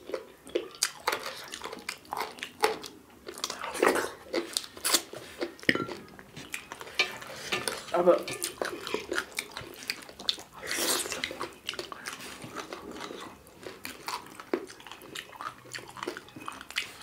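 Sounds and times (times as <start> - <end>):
fingers squishing food on plates: 0.0 - 17.0
wet chewing and lip smacking: 0.0 - 17.0.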